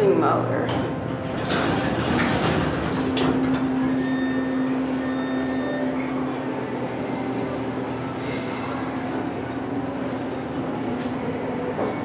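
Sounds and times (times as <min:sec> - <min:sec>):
elevator mechanical rumble: 0:00.0 - 0:12.0.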